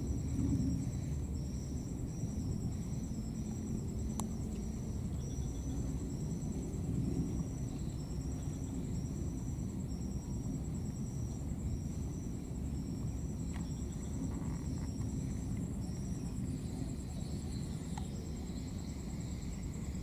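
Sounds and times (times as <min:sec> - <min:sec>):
constant low rumble: 0:00.0 - 0:20.0
high insect trill: 0:00.0 - 0:20.0.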